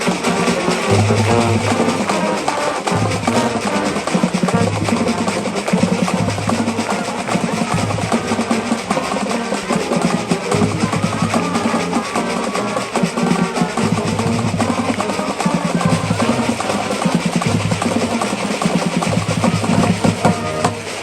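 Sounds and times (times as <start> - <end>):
marching band playing: 0.0 - 21.0
snare and bass drums: 0.0 - 21.0.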